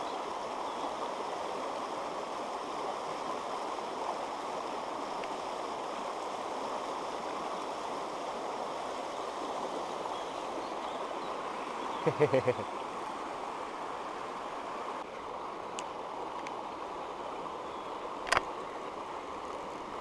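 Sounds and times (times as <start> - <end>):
stream rushing over stones: 0.0 - 20.0.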